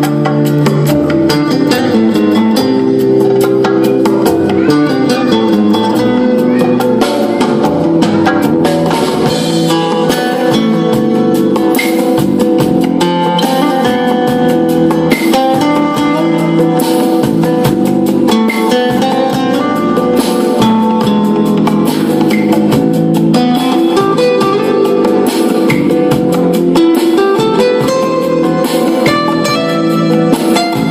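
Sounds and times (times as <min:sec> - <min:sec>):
strummed guitar song: 0:00.0 - 0:30.9.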